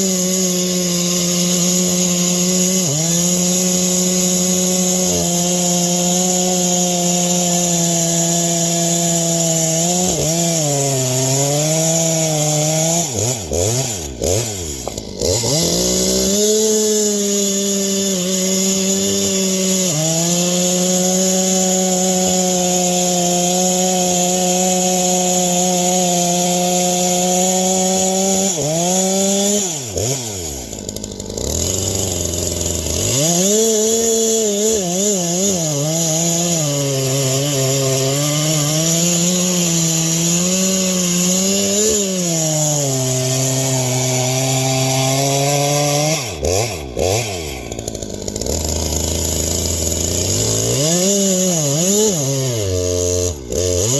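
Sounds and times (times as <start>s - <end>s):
chainsaw cutting and idling: 0.0s - 53.9s.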